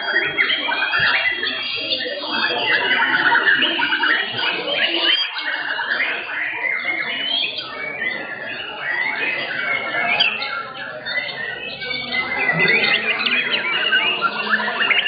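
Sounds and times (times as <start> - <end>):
songbirds singing overlapping whistles: 0.0 - 15.0.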